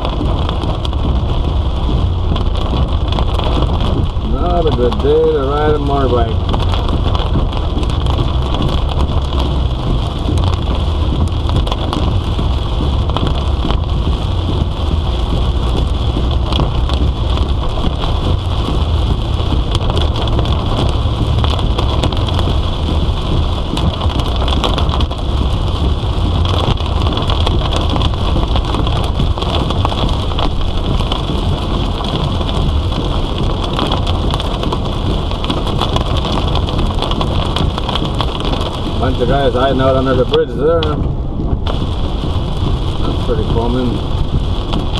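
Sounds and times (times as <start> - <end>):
heavy rain pelting a car: 0.0 - 44.9
low road rumble: 0.0 - 44.9.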